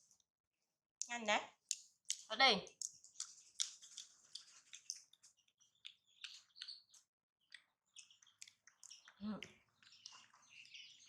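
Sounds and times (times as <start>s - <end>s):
monkey lip smacking and chewing: 1.6s - 11.0s.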